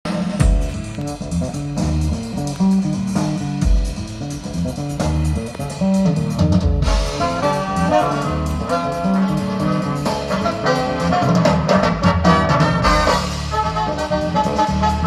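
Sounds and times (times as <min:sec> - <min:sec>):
drum kit: 0:00.0 - 0:15.0
big band jazz brass and saxophones: 0:00.1 - 0:15.0.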